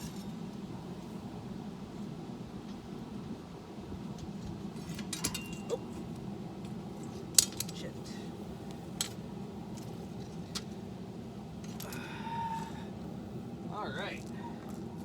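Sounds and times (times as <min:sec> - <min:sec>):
forge burner rumble: 0:00.0 - 0:15.0.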